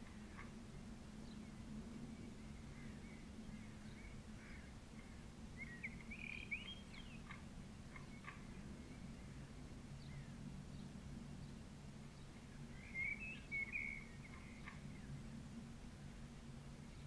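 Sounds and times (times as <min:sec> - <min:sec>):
steady low hum: 0:00.0 - 0:17.0
birds chirping: 0:01.2 - 0:15.4.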